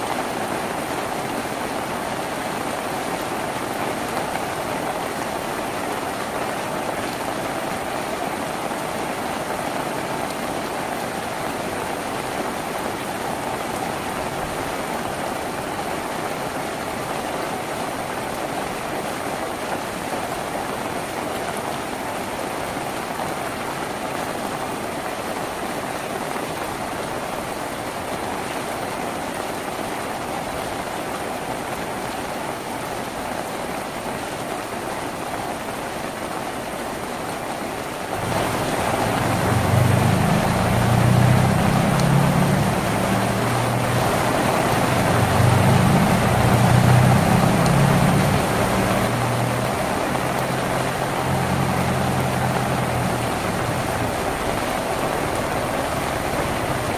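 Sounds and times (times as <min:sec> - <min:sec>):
rain on a tin roof: 0:00.0 - 0:56.9.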